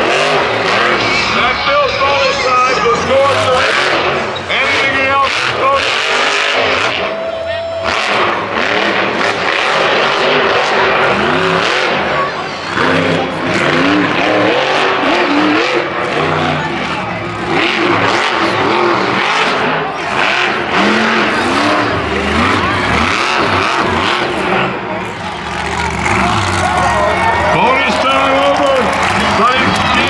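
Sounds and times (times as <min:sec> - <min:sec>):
crowd noise: 0:00.0 - 0:30.0
monster truck engine revving: 0:00.0 - 0:30.0.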